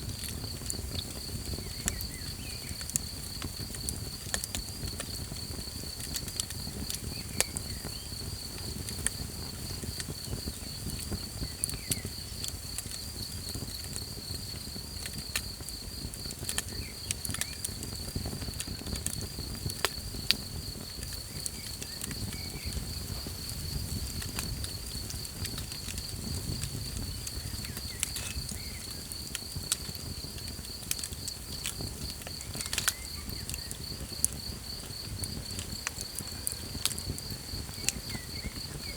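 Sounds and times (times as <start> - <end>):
campfire crackling and popping: 0.0 - 38.9
night insects trilling: 0.0 - 38.9.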